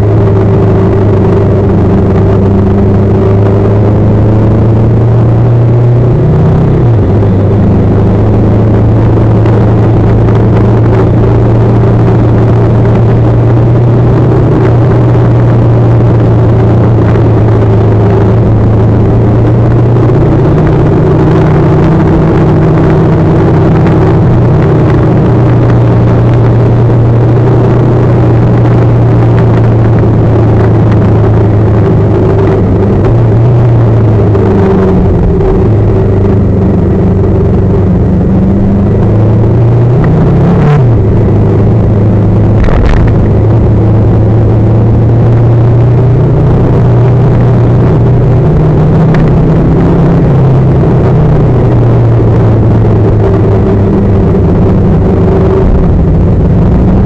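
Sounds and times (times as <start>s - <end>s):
motorcycle engine cruising: 0.0s - 57.0s
road noise: 0.0s - 57.0s
wind noise: 0.0s - 57.0s.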